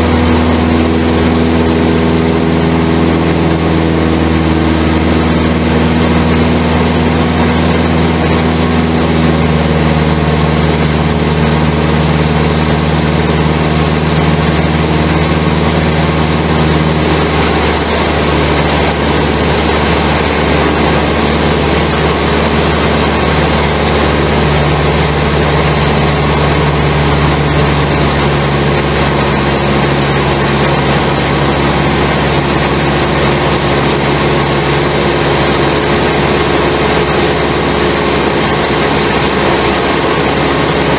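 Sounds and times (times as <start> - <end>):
propeller plane engine running: 0.0 - 40.9.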